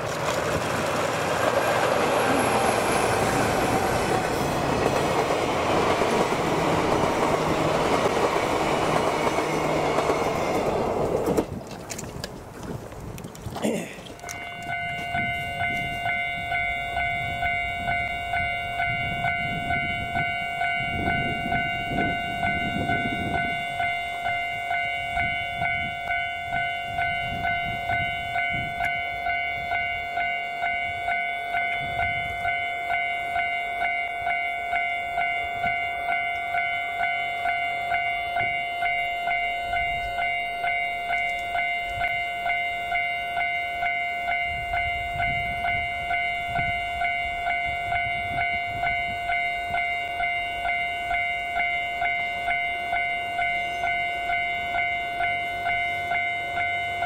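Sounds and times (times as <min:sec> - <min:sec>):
level crossing warning bell ringing: 0:01.8 - 0:11.1, 0:14.2 - 0:57.0.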